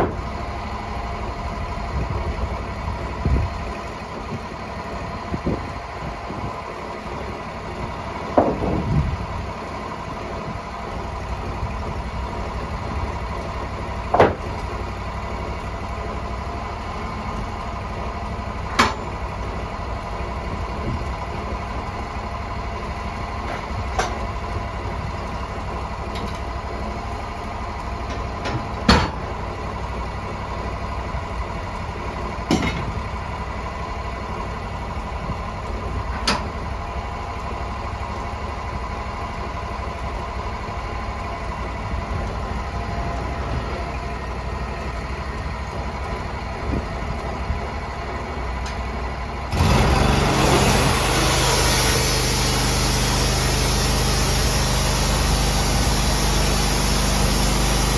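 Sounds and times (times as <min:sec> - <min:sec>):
sawmill engine running: 0:00.0 - 0:57.9.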